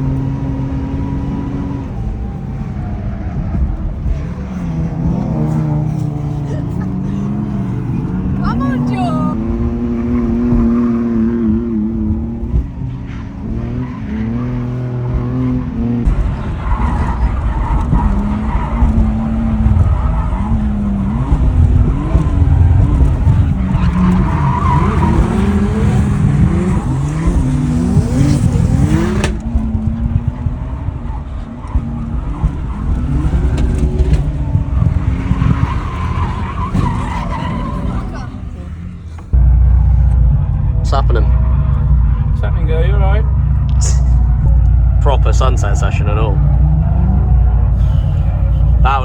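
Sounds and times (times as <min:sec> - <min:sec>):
car engine revving: 0:00.0 - 0:49.0
tyres skidding: 0:00.0 - 0:49.0.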